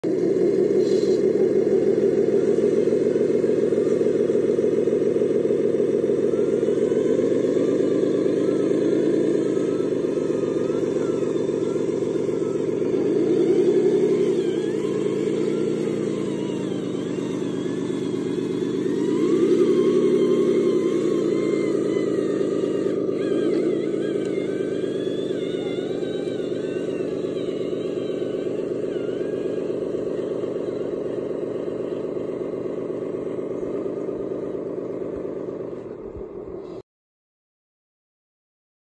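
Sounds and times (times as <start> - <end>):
toy truck engine revving: 0.0 - 36.8.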